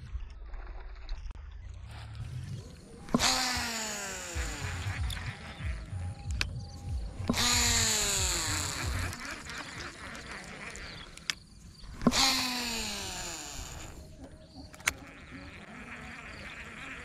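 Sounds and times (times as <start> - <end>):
fishing reel spool whirring: 2.6 - 17.0.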